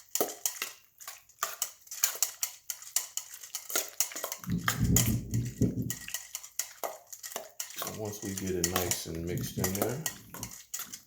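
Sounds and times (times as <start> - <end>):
utensil clattering against bowl: 0.2 - 11.0.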